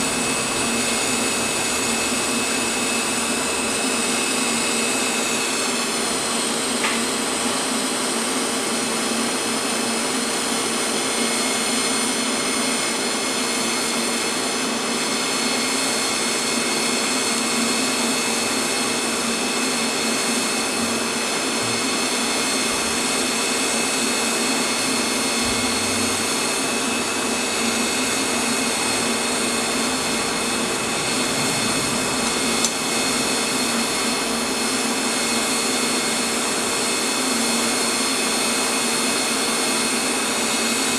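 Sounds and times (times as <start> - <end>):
welding arc hissing: 0.0 - 8.8, 15.3 - 40.9.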